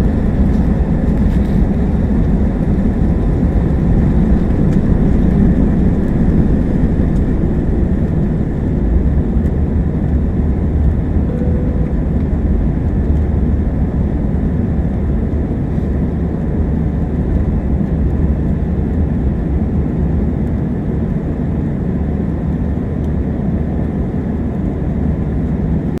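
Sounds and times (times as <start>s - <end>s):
airplane engines rumbling: 0.0s - 26.0s.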